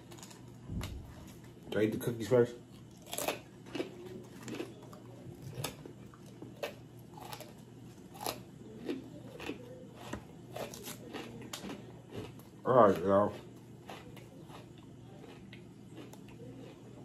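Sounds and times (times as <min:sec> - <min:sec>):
fortune cookie crunching: 0:00.0 - 0:17.0.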